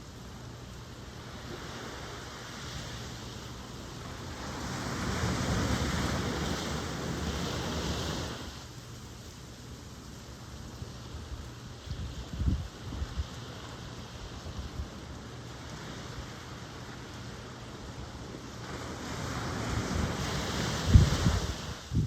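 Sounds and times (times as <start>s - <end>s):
ocean wave washing: 0.0s - 8.8s, 11.2s - 22.0s
background surf wash: 0.0s - 22.0s.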